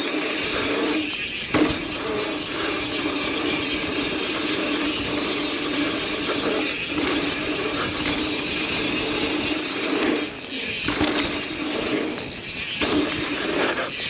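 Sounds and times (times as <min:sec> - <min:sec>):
bicycle freewheel clicking: 0:00.0 - 0:14.0
tyre and trail noise: 0:00.0 - 0:14.0.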